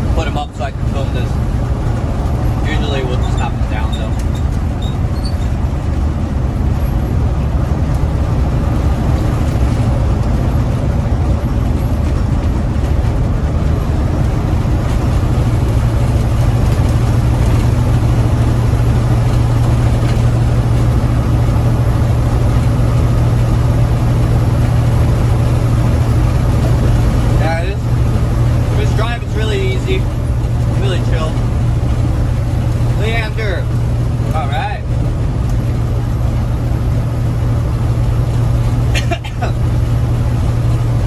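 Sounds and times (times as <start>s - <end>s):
truck diesel engine drone: 0.0s - 41.0s.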